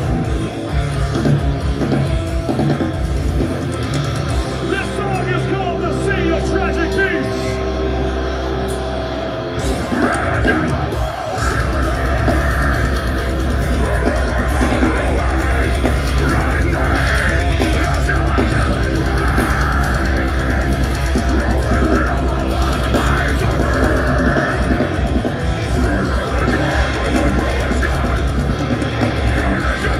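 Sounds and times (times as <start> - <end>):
heavy metal band playing live: 0.0 - 29.9.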